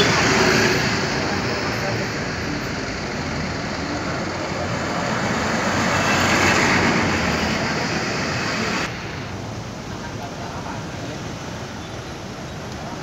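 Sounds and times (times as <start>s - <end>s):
dense road traffic passing: 0.0s - 13.0s.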